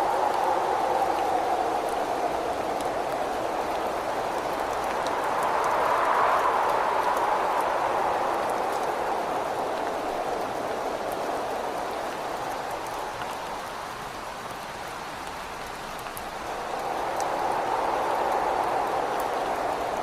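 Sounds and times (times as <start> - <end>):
steady rain: 0.0 - 20.0
whistling wind: 0.0 - 20.0
raindrop ticks: 1.2 - 20.0.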